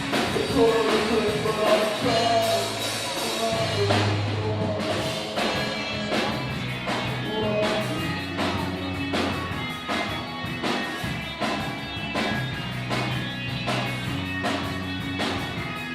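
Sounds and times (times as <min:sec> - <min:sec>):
rock band playing: 0:00.0 - 0:15.9.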